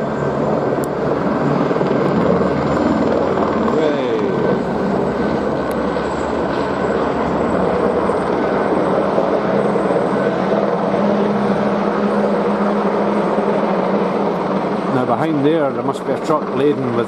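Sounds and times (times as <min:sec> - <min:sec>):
helicopter flying close: 0:00.0 - 0:17.0.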